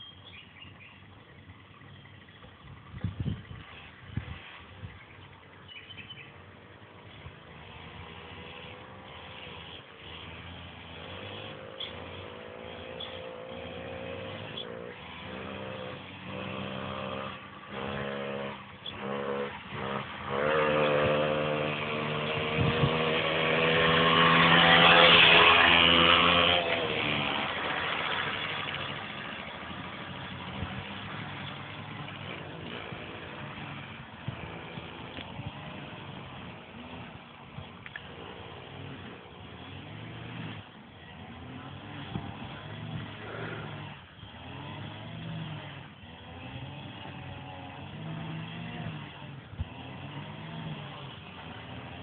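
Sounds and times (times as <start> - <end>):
moped engine revving past: 2.8 - 52.0.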